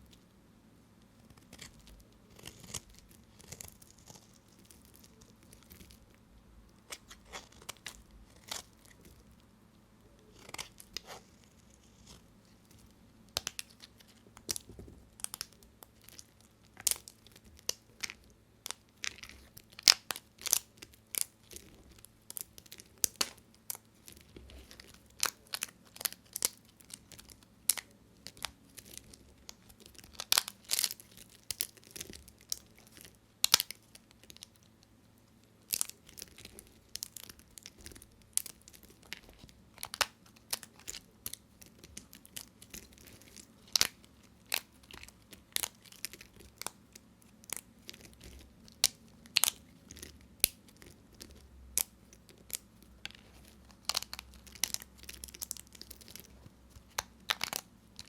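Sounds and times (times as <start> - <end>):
blade crunching through soap: 1.2 - 6.1, 6.8 - 9.3, 10.3 - 34.7, 35.6 - 58.0.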